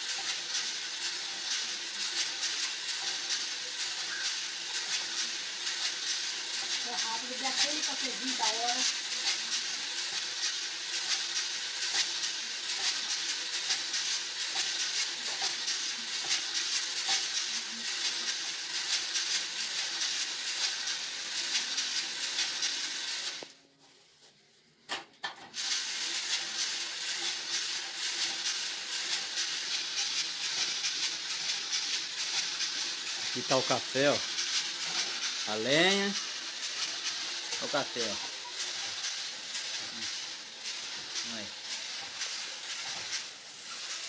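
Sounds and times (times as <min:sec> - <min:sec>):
coffee beans rattling in roaster: 0:00.0 - 0:23.5, 0:24.9 - 0:44.0.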